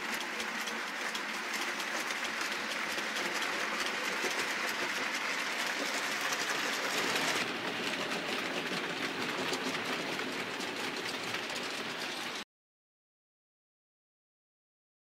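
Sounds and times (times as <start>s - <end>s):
model train wheels rattling on rails: 0.0s - 12.4s.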